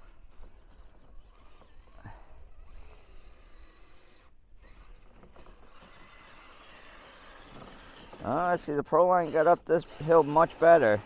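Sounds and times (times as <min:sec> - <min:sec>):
rc car electric drive whine: 0:00.0 - 0:11.0.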